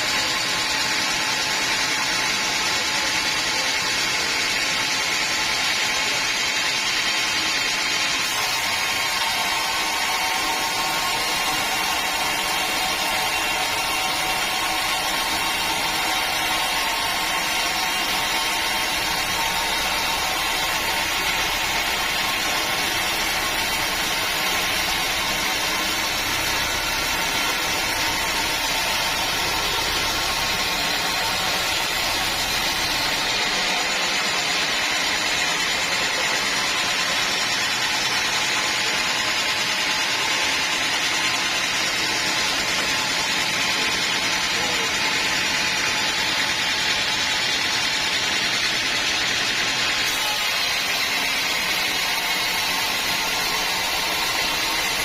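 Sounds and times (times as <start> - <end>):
sawmill saw machinery running: 0.0 - 55.0.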